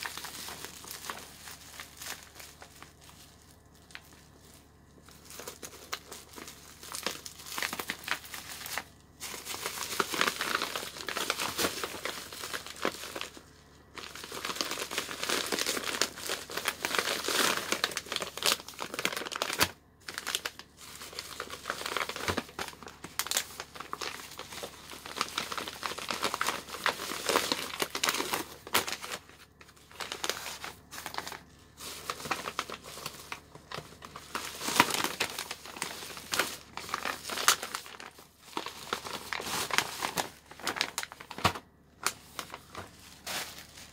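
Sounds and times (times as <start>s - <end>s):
bubble wrap crinkling: 0.0s - 43.9s.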